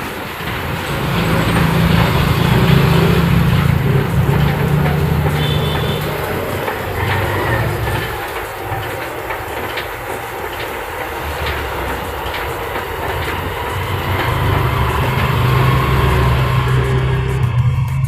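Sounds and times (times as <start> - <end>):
cross-trainer rhythmic clicking: 0.0 - 17.6
rushing hiss: 0.0 - 17.6.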